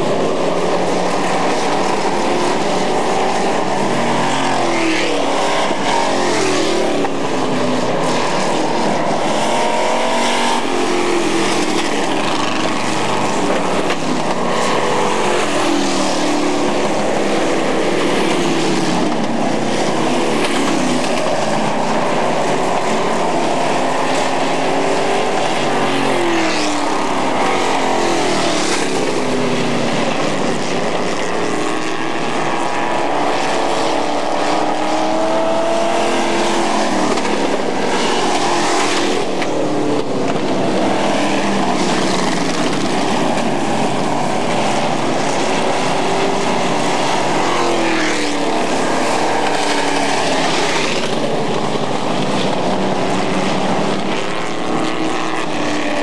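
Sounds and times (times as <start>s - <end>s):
racing truck engines: 0.0s - 56.0s.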